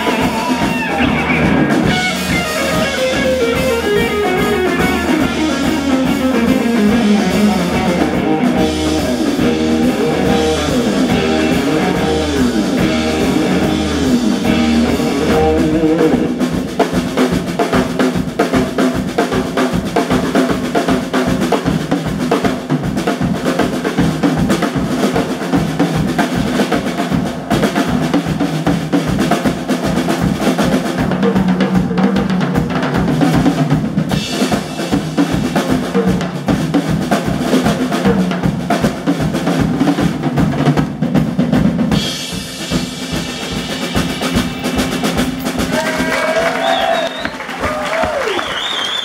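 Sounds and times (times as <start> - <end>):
driving drum kit: 0.0 - 49.0
live rock band playing: 0.0 - 49.0.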